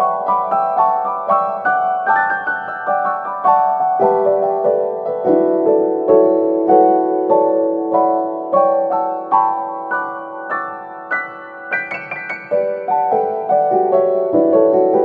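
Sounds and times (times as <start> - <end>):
solo piano playing: 0.0 - 15.0.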